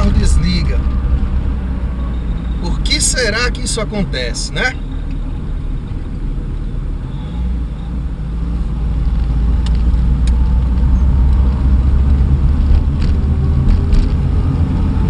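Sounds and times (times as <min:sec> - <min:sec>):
road noise: 0:00.0 - 0:15.0
vehicle engine rumble: 0:00.0 - 0:15.0.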